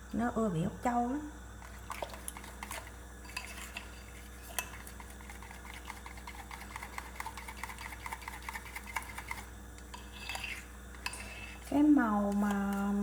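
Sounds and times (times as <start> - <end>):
utensil stirring batter in bowl: 1.6 - 13.0.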